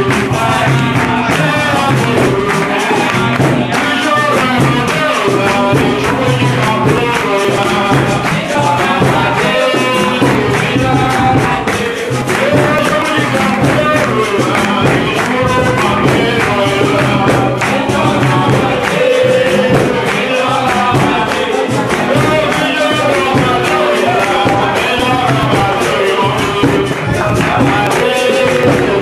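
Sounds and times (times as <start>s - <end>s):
group singing: 0.0s - 29.0s
handclaps: 0.0s - 29.0s
tambourine strikes: 0.0s - 29.0s.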